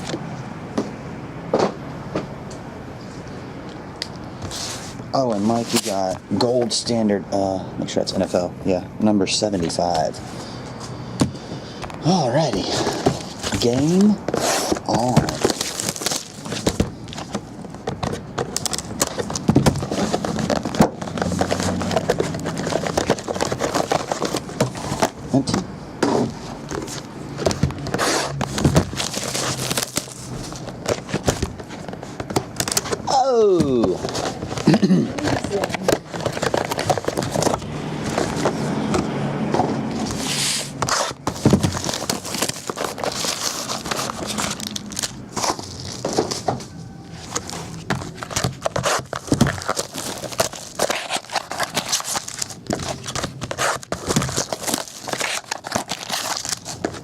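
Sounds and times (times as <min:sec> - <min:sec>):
cardboard and wrapper clicks and rustles: 0:11.2 - 0:57.0.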